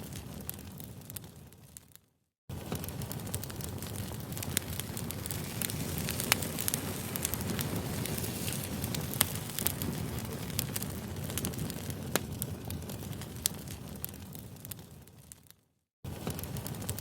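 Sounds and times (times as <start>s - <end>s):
campfire flames rushing: 2.5s - 15.4s, 16.1s - 17.0s
burning wood popping: 2.5s - 17.0s.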